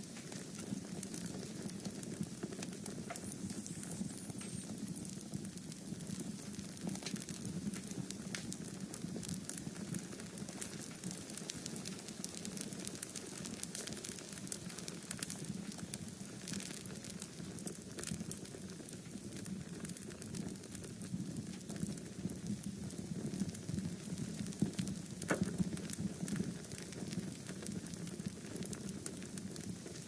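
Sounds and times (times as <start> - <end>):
low hiss of flames: 0.0 - 30.0
sharp pops of fire: 0.0 - 30.0
wood fire crackling: 0.0 - 30.0.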